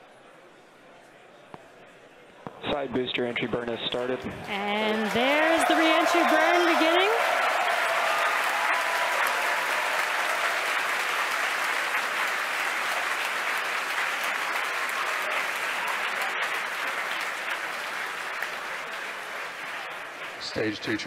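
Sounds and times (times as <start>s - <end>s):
crowd applauding: 3.4s - 21.0s.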